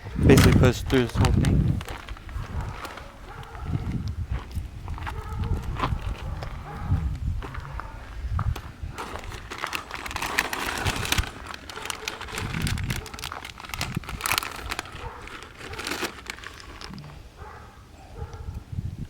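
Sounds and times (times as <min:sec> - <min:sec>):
plastic bag crinkling: 0:00.2 - 0:17.2.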